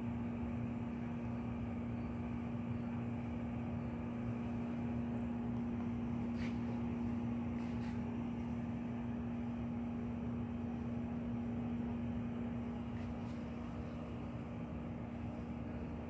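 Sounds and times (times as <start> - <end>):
low room hum with hiss: 0.0 - 16.0.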